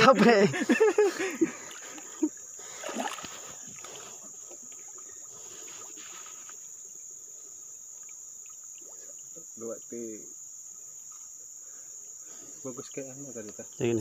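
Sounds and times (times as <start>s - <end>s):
insects shrilling: 0.3s - 14.0s.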